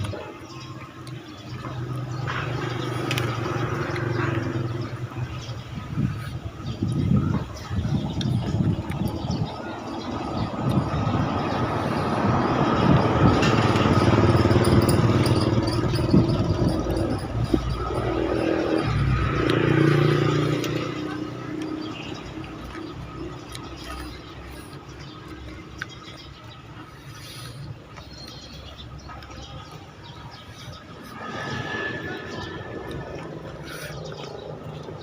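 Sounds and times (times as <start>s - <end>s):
vehicle passing by: 1.5s - 6.8s, 8.4s - 35.0s.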